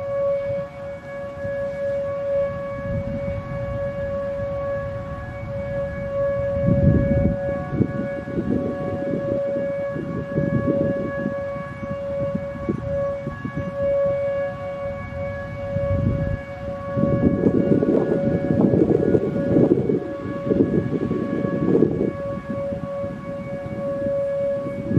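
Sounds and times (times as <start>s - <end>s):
warning siren dual-tone: 0.0s - 24.9s.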